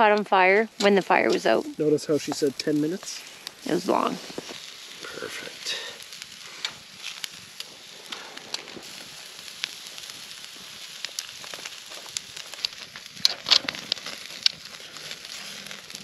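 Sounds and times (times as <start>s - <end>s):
fire hiss: 0.0s - 16.0s
wood fire crackling and popping: 0.0s - 16.0s.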